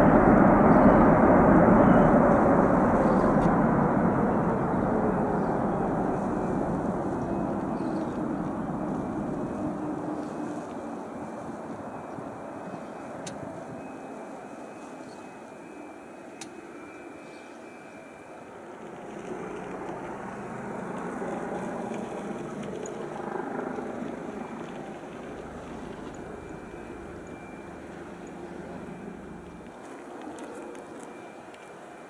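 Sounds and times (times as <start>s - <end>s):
distant jet engine rumble: 0.0s - 32.0s.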